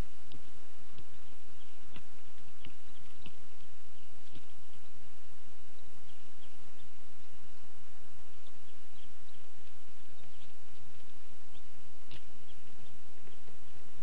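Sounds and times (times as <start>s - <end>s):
eaglets chirping: 0.0s - 14.0s
outdoor background noise: 0.0s - 14.0s.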